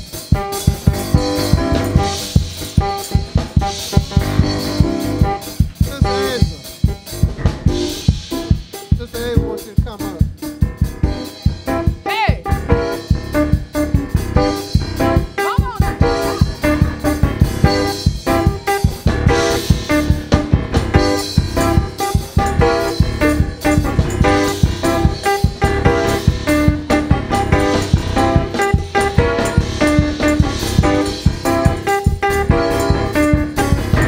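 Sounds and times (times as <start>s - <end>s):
drum kit beat: 0.0s - 34.0s
sustained keyboard chords: 0.0s - 34.0s.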